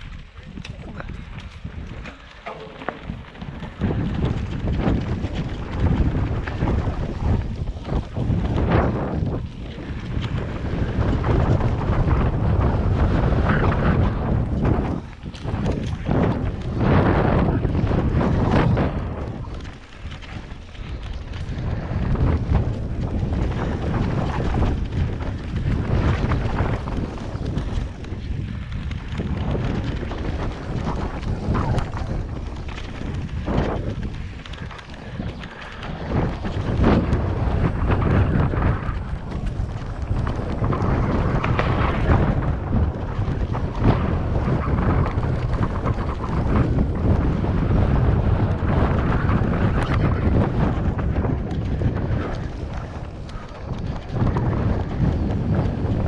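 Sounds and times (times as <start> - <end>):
bike rattling and knocking: 0.0 - 56.0
bike tyres rolling over dirt trail: 0.0 - 56.0
wind buffeting microphone: 0.0 - 56.0.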